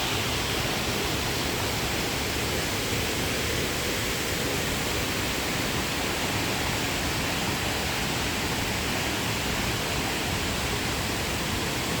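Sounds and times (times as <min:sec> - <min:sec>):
river water rushing at waterfall: 0:00.0 - 0:12.0.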